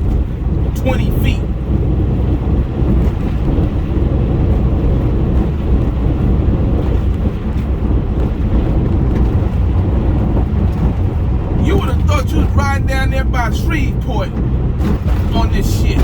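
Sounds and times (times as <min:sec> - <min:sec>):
tyres rumbling on rough road: 0:00.0 - 0:16.0.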